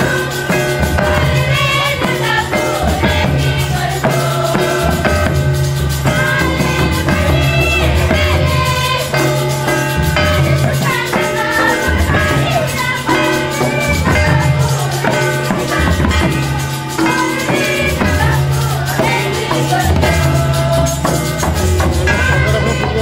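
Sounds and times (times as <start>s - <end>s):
group singing: 0.0s - 23.0s
hand-played barrel drums: 0.0s - 23.0s.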